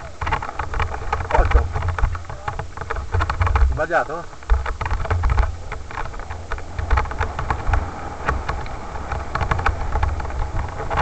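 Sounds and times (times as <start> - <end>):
bike clicks and knocks: 0.0 - 3.8, 4.4 - 11.0
steady low rumble: 0.0 - 11.0.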